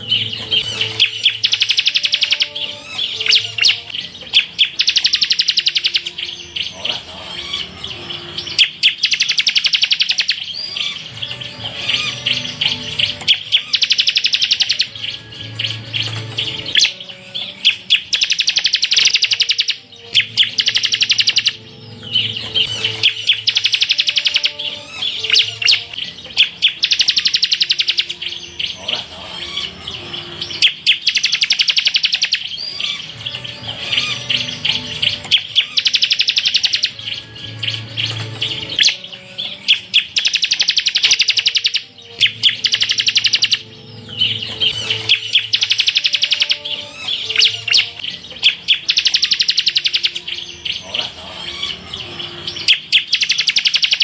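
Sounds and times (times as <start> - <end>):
bird singing rapid trills: 0.0 - 54.0.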